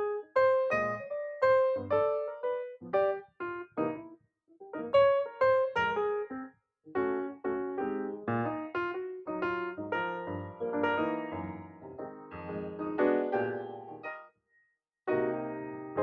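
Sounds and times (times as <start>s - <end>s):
piano melody: 0.0s - 14.3s, 15.1s - 16.0s.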